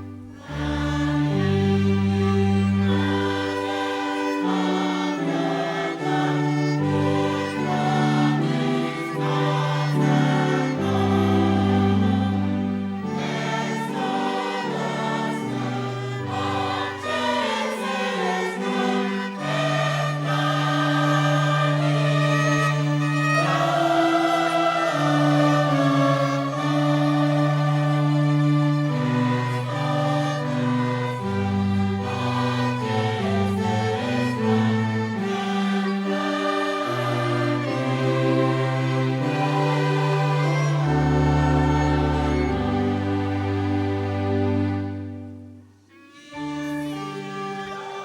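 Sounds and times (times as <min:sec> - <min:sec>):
choir singing a hymn: 0:00.0 - 0:48.0
string accompaniment: 0:00.0 - 0:48.0.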